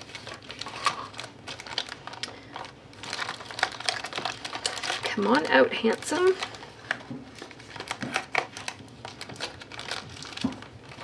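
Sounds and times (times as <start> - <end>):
packaging clicks and crinkles: 0.0 - 11.0.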